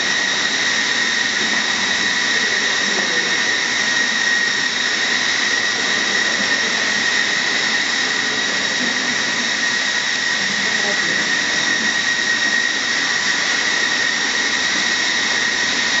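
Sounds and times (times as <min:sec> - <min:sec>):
machine with high whine: 0:00.0 - 0:16.0.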